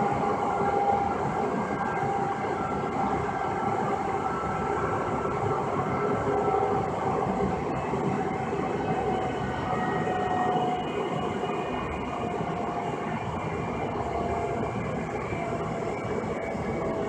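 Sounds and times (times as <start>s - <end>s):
faint thin whining tones: 0.0s - 17.0s
rail car rumble: 0.0s - 17.0s.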